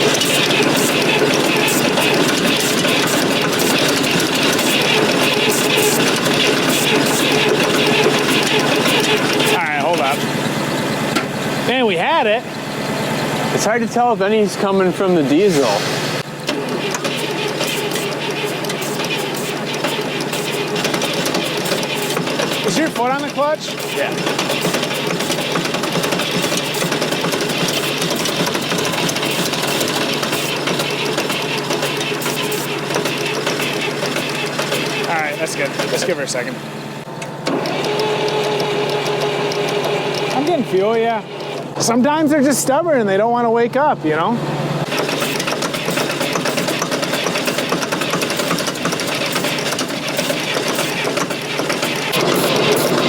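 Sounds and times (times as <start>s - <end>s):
diesel engine cranking: 0.0s - 53.0s.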